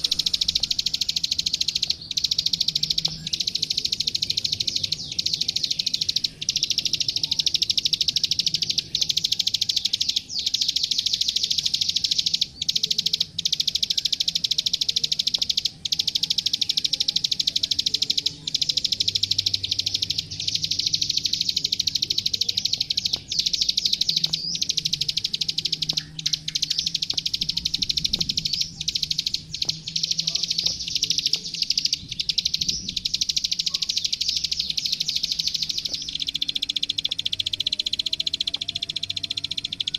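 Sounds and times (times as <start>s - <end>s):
bird rapid clicking song: 0.0s - 39.9s.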